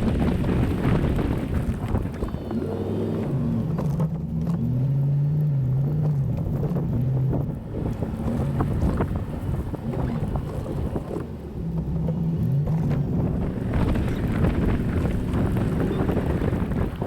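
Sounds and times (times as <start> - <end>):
low rumble: 0.0 - 17.0
pickup engine running: 0.0 - 17.0.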